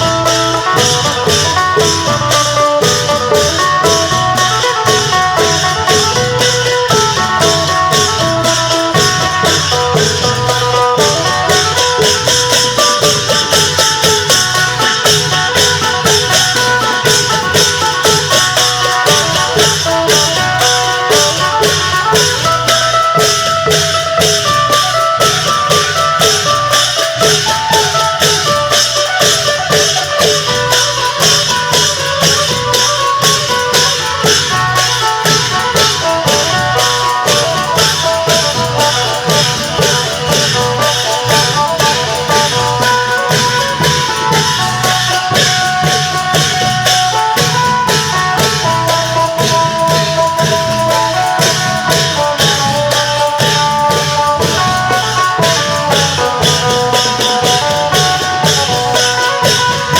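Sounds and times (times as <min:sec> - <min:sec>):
drums and cymbals rhythm: 0:00.0 - 0:59.9
plucked lute melody: 0:00.0 - 0:59.9.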